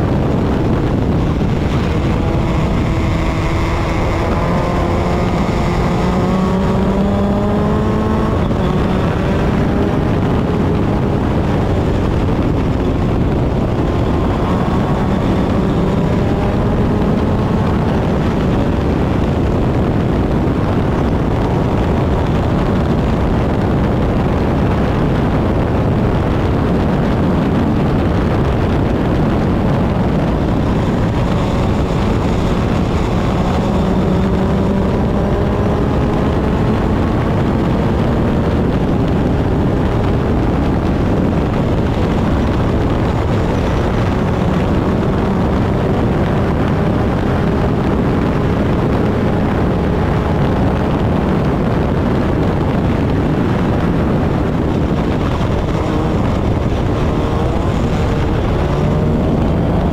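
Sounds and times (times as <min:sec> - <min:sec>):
race car engine running hard: 0:00.0 - 0:59.9
wind and road noise: 0:00.0 - 0:59.9.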